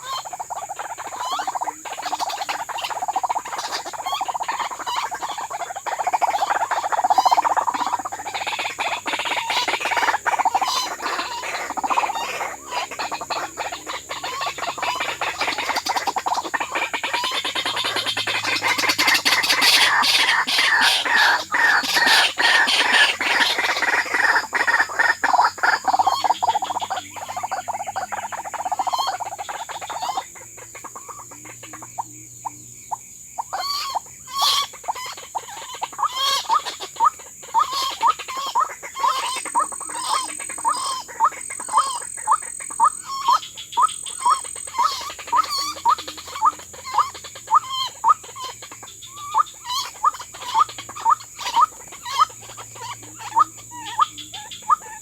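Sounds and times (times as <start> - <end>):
waterhen calling: 0.0 - 32.0, 33.4 - 55.0.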